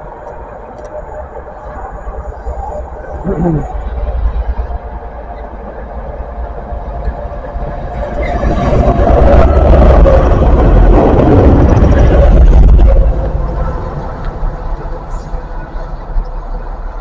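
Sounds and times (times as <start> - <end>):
diesel locomotive passing: 0.0 - 17.0.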